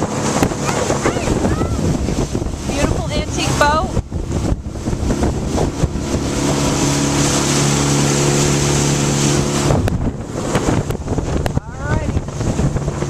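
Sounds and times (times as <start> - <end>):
motorboat engine running: 0.0 - 13.0
rushing wind: 0.0 - 13.0.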